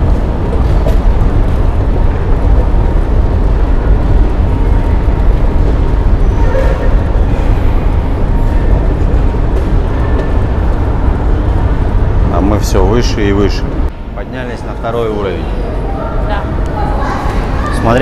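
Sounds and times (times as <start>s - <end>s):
loud low rumbling: 0.0s - 17.8s.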